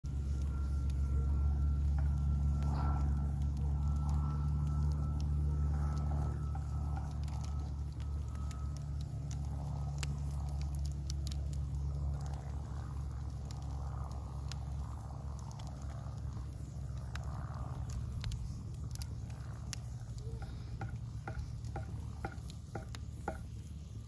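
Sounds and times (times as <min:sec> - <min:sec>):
wood fire crackling and popping: 0:00.1 - 0:24.0.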